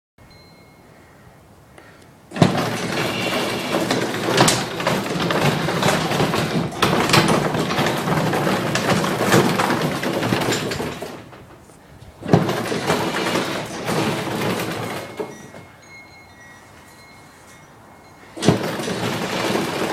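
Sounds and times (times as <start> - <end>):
garage door opener rattling: 2.3 - 19.9.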